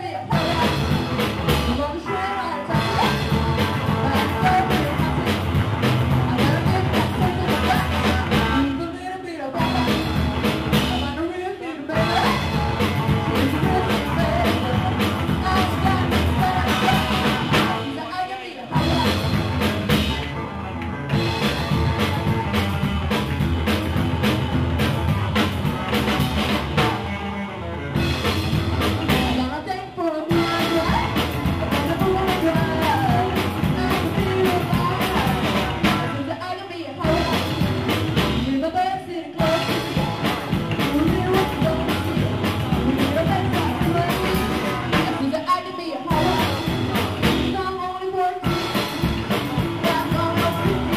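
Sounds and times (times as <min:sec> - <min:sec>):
woman singing: 0:00.0 - 0:20.4, 0:29.1 - 0:50.9
drum kit: 0:00.0 - 0:50.9
electric guitar: 0:00.0 - 0:50.9
upright double bass: 0:00.3 - 0:08.8, 0:09.6 - 0:11.2, 0:11.9 - 0:17.9, 0:18.7 - 0:29.6, 0:30.3 - 0:36.3, 0:37.0 - 0:38.6, 0:39.4 - 0:45.3, 0:46.1 - 0:47.7, 0:48.4 - 0:50.9.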